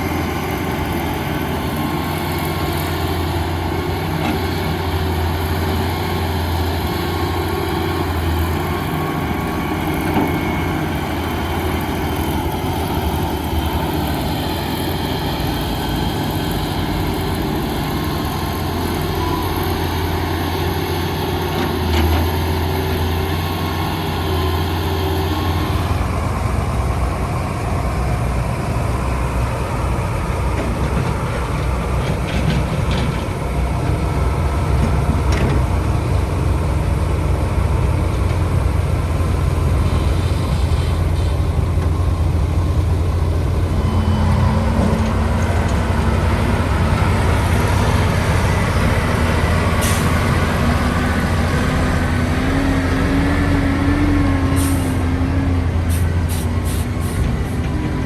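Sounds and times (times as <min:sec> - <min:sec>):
heavy machinery diesel engines: 0:00.0 - 0:58.0.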